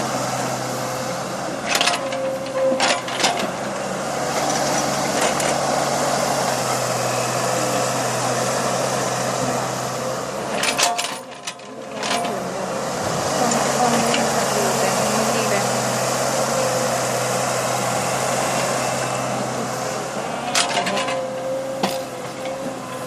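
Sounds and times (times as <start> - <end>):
backhoe engine running: 0.0 - 23.0.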